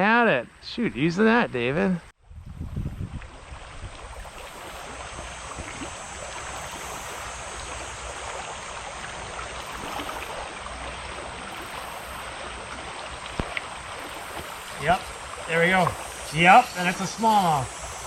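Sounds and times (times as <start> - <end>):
creek water flowing over rocks: 2.4 - 18.0.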